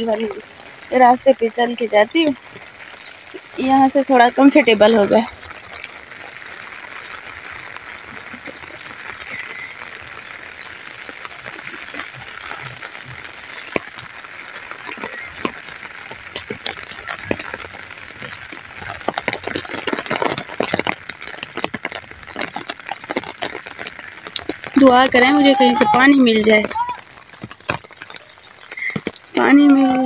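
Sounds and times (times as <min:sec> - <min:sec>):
raindrops pattering and clicking: 0:00.0 - 0:30.0
steady rain hiss: 0:00.0 - 0:30.0.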